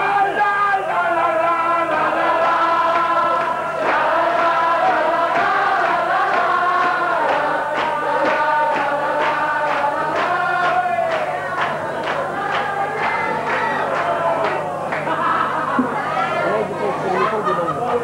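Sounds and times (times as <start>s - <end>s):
voices singing together: 0.0s - 18.0s.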